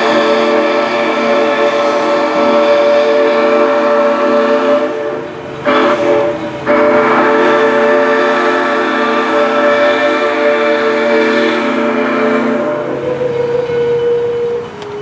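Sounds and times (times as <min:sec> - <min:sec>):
steam whistle blasts: 0:00.0 - 0:15.0.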